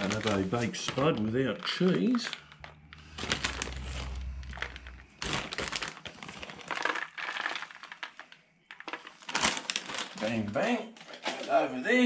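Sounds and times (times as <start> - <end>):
plastic packet crinkling: 0.0 - 11.5.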